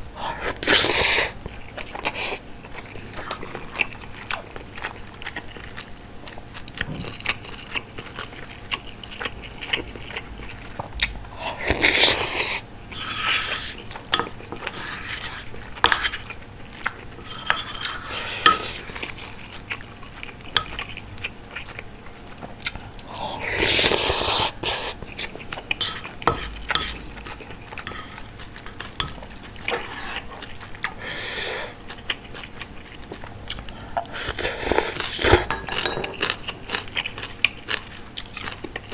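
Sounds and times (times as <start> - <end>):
close chewing: 0.4 - 38.9.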